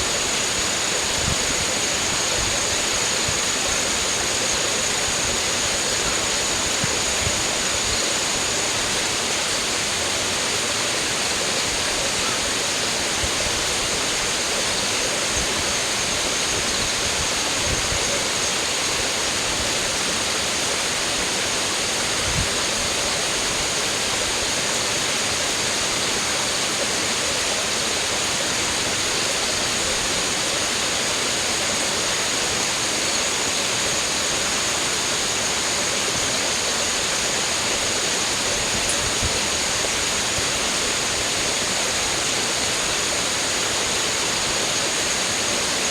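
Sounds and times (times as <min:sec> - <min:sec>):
flowing water rushing: 0:00.0 - 0:45.9.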